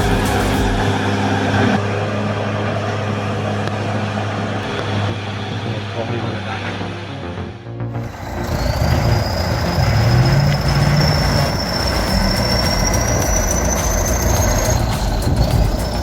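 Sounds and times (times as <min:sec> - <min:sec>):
heavy machine engine rumble: 0:00.0 - 0:16.0
high-pitched whine: 0:00.0 - 0:16.0.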